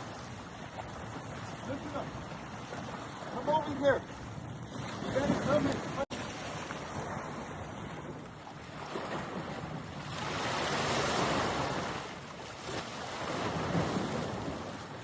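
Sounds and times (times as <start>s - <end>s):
waves washing at shore: 0.0s - 15.0s
wind rumbling on microphone: 0.0s - 15.0s.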